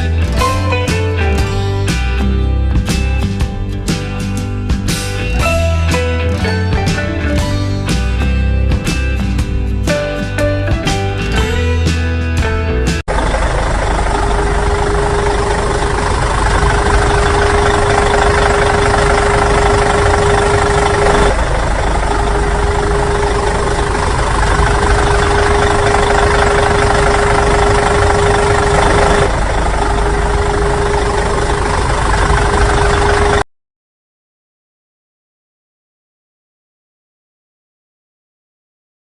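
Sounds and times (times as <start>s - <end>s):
engine idling: 0.0s - 33.5s.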